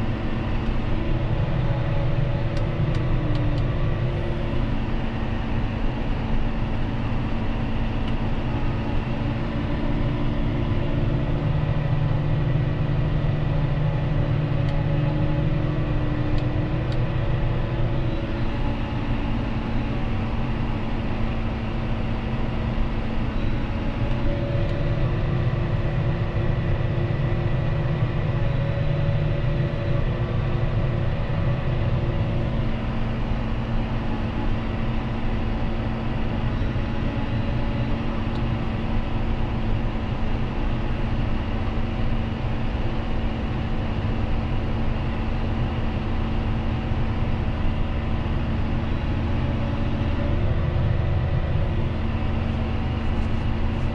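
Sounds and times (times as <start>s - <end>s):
tractor diesel engine running: 0.0s - 39.4s, 42.6s - 53.9s.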